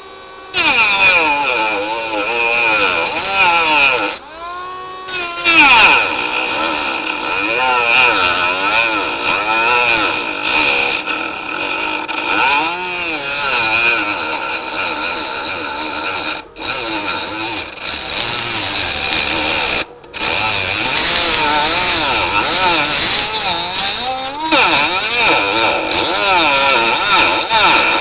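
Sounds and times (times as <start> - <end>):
milling machine cutting whine: 0.0 - 28.0.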